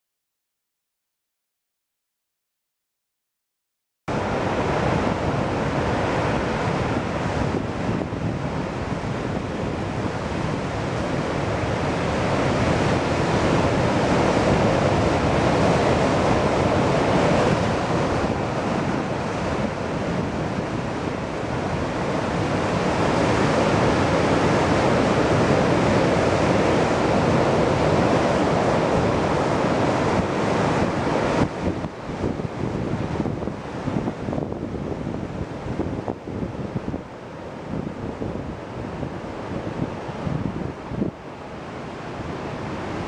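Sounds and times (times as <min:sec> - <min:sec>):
surf breaking on rocky shore: 0:04.1 - 0:43.0
wind buffeting microphone: 0:04.1 - 0:43.0.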